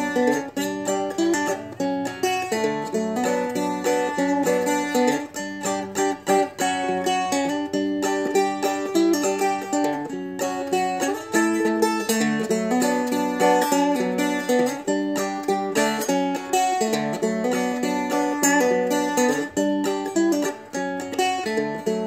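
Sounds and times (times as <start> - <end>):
plucked dulcimer melody: 0.0 - 22.0.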